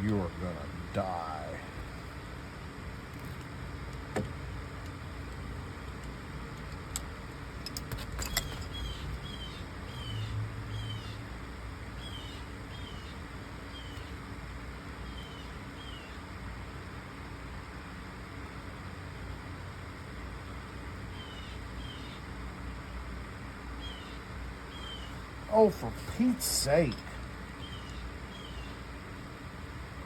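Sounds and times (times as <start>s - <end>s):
fan hiss: 0.0s - 30.0s.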